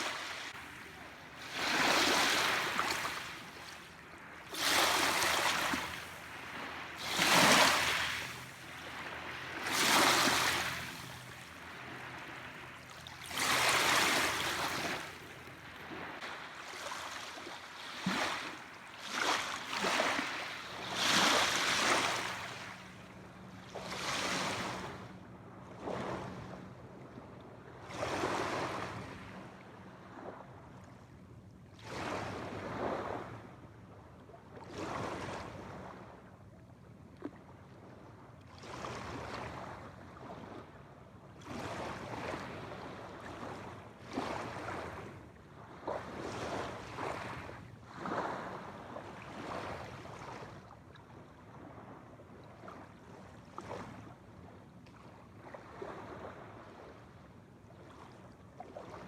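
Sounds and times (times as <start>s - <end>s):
small waves breaking on shore: 0.0s - 59.0s.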